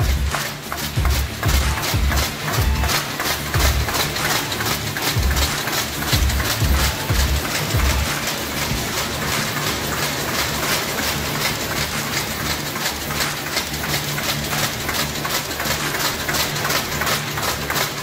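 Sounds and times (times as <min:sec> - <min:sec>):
low machine hum: 0:00.0 - 0:18.0
paper-handling machine clatter: 0:00.0 - 0:18.0.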